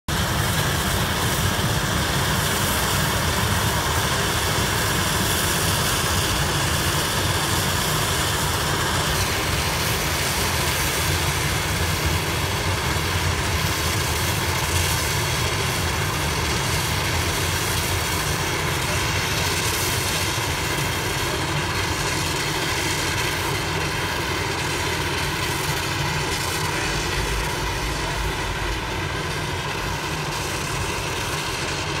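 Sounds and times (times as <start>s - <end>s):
hissing steam: 0.1s - 32.0s
steam locomotive exhaust: 0.1s - 32.0s.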